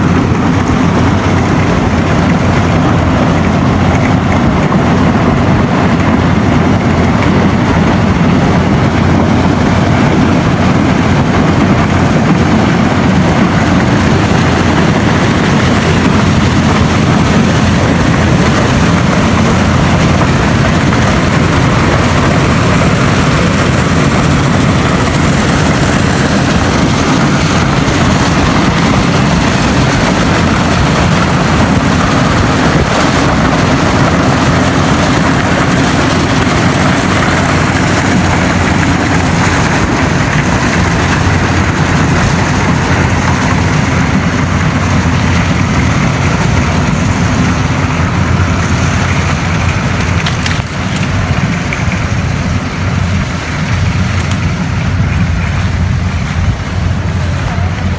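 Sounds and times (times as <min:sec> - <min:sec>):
harvester engine drone: 0:00.0 - 0:57.9.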